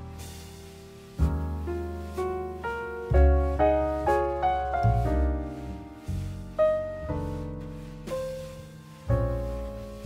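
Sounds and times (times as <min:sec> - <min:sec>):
piano notes: 0:00.0 - 0:10.0.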